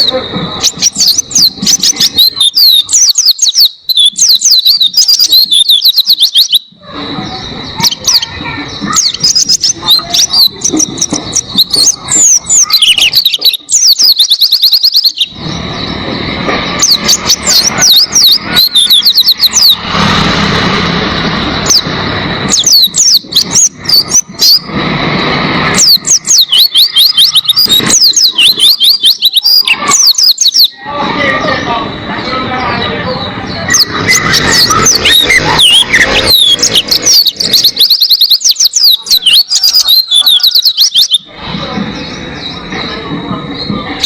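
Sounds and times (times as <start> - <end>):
bird twittering: 0.0 - 19.9, 21.5 - 24.7, 25.7 - 31.5, 32.3 - 41.3.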